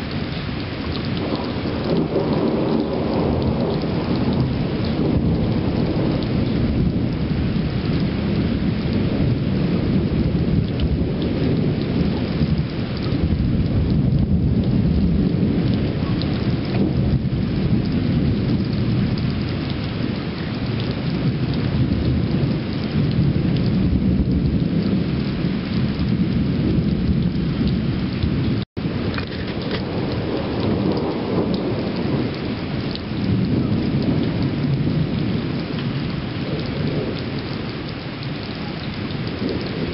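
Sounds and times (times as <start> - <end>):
low rumbling thunder: 0.0 - 39.9
steady rain: 0.0 - 39.9.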